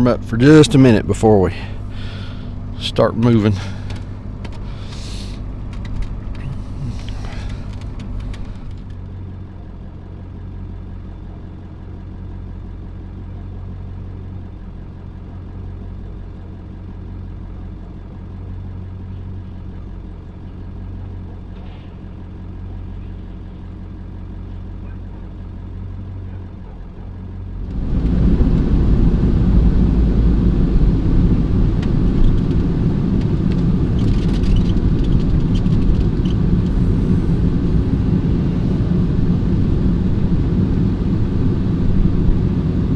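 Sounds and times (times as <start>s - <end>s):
car engine idling: 0.0s - 42.9s
vehicle driving with road noise: 0.0s - 42.9s.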